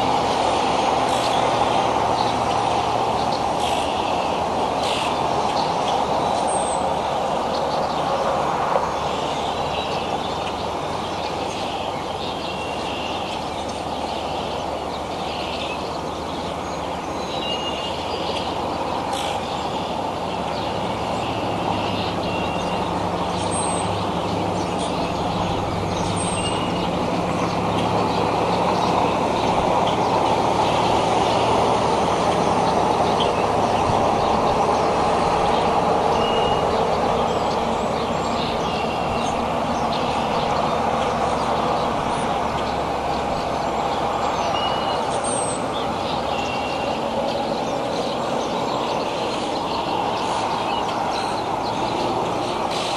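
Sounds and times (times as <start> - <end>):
small birds chirping: 0.0 - 8.2, 8.9 - 52.9
steady outdoor rushing noise: 0.0 - 52.9.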